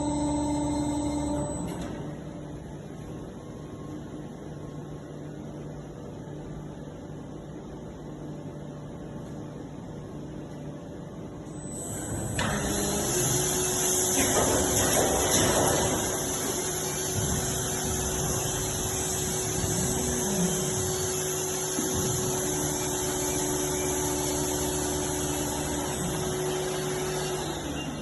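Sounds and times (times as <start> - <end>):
machine humming: 0.0 - 8.1, 11.0 - 28.0.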